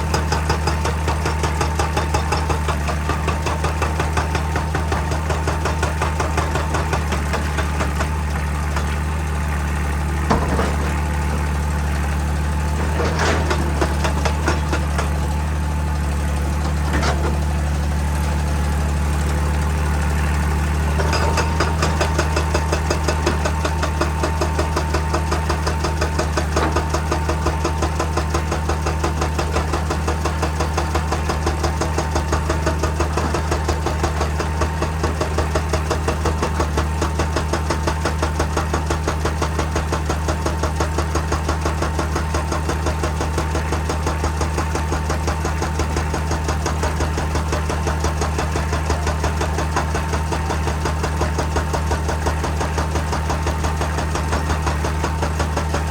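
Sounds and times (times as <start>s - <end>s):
hydraulic breaker hammering rock: 0.0s - 18.0s, 19.4s - 55.9s
diesel engine running: 0.0s - 55.9s.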